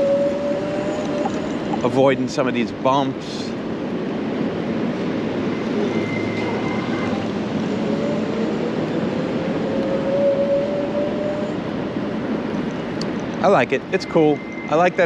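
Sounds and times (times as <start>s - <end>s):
faint rising whine: 0.0s - 15.0s
wind and road noise: 0.0s - 15.0s.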